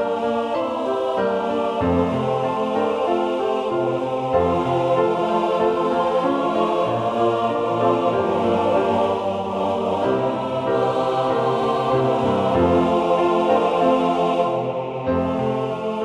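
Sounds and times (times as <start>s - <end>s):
choir singing slow chords: 0.0s - 16.0s.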